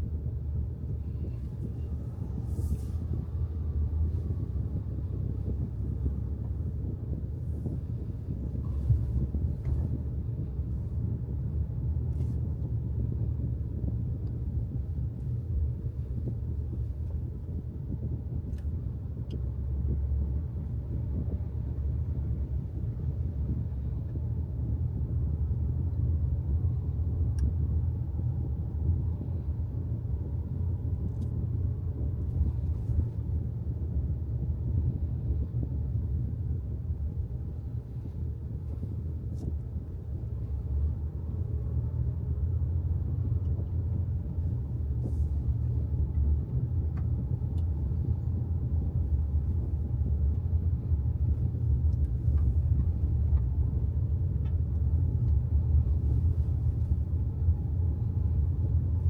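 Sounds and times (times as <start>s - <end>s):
car driving on road rumble: 0.0s - 59.0s.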